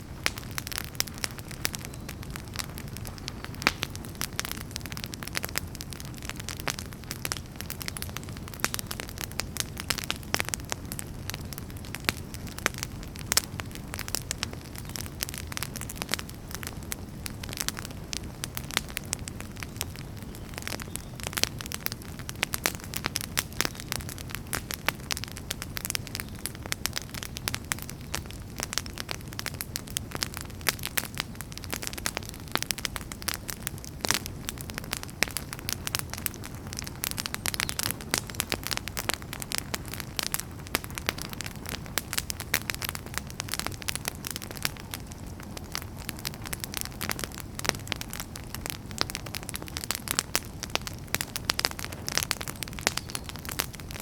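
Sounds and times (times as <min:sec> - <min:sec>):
low rumble of burning: 0:00.0 - 0:54.0
wood fire pops and snaps: 0:00.0 - 0:54.0.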